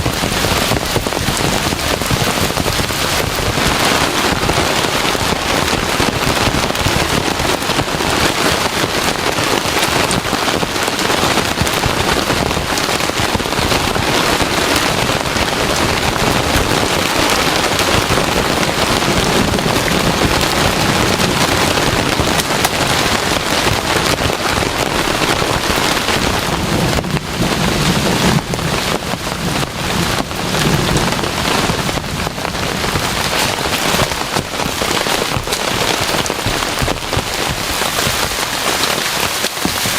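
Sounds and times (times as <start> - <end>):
heavy rain falling: 0.0 - 39.9
low rumble of thunder: 0.0 - 39.9.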